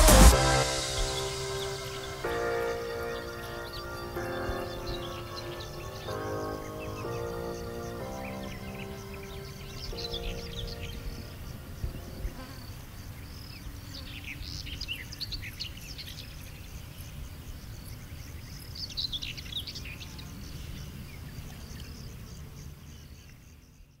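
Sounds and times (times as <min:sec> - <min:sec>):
faint high insect hum: 0:02.3 - 0:24.0.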